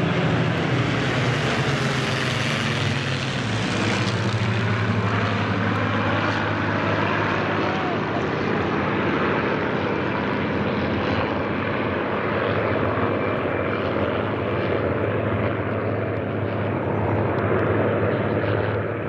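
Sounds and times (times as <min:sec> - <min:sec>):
propeller planes droning overhead: 0:00.0 - 0:19.0.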